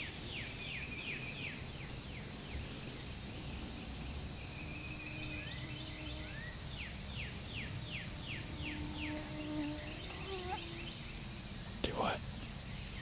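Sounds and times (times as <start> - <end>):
faint low hum: 0.0 - 13.0
high insect drone: 0.0 - 13.0.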